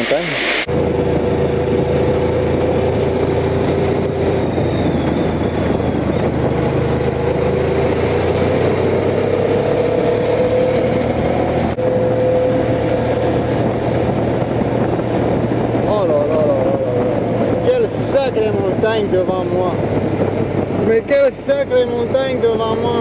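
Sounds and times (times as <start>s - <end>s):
wind rushing over microphone: 0.0s - 23.0s
motorcycle engine running: 0.7s - 23.0s.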